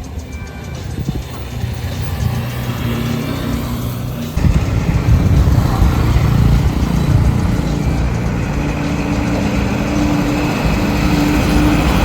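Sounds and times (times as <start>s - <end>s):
motorcycle engine riding: 0.0s - 12.0s
road noise: 0.0s - 12.0s.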